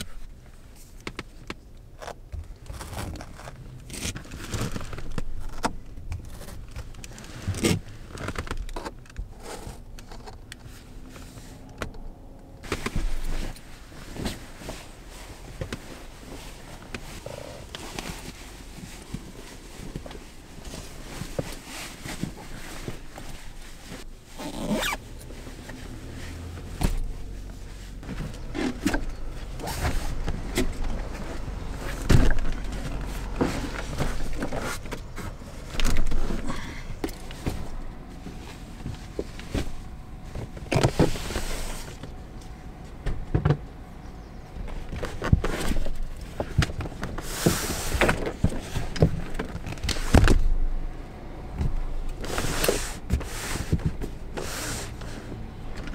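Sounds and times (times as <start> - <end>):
knocks clicks and rustles of handling: 0.0 - 50.8, 51.4 - 55.9
low steady hum: 0.0 - 55.9.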